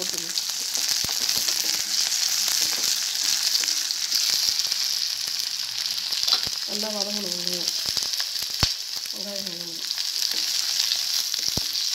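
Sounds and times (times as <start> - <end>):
vegetables sizzling in oil: 0.0 - 11.9.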